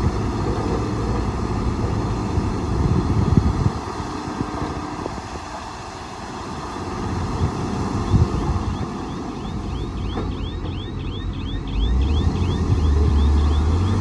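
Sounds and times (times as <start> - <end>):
heavy machinery diesel engines: 0.0 - 14.0.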